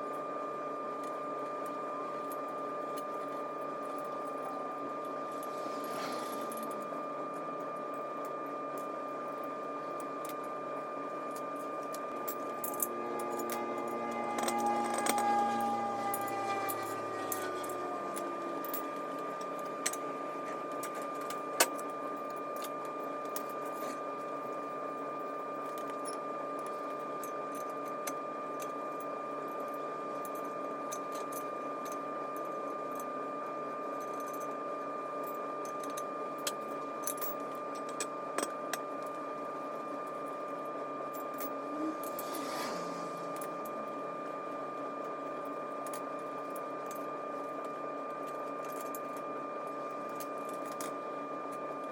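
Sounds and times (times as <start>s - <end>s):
steady hum with high whine: 0.0s - 51.9s.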